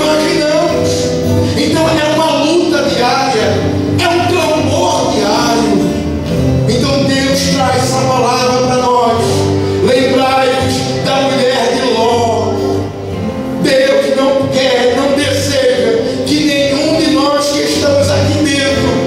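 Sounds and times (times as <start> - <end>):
man singing: 0.0 - 19.0
worship band playing: 0.0 - 19.0.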